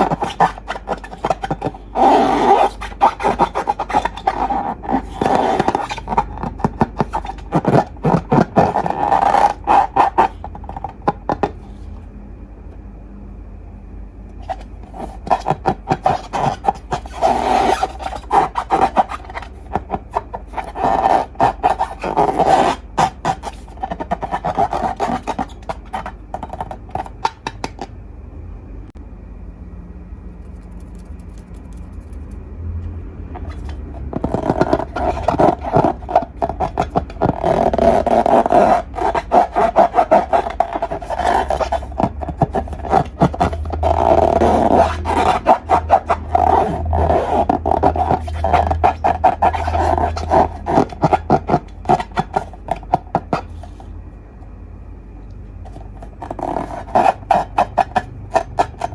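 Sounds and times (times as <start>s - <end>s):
faint steady hum: 0.0s - 58.9s.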